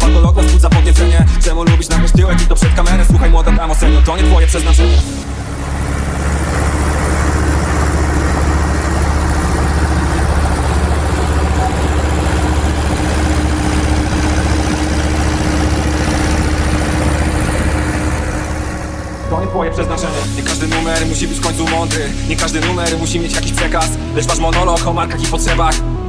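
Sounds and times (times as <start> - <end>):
tractor diesel engine running: 0.0 - 25.8.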